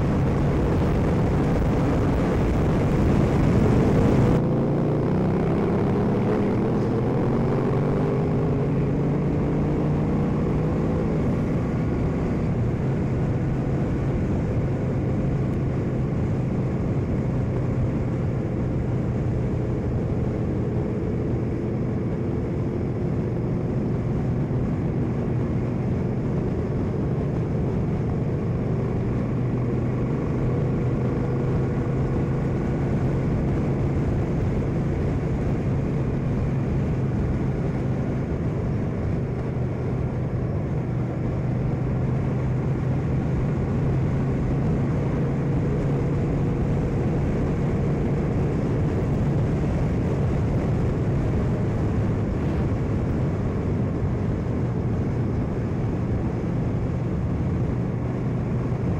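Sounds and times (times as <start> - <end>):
motorcycle engine running: 0.0 - 58.9
wind rumble on microphone: 0.0 - 58.9.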